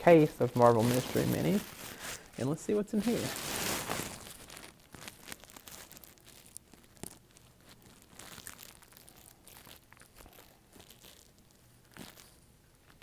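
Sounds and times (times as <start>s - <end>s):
cardboard and wrapper crinkling: 0.0s - 13.0s.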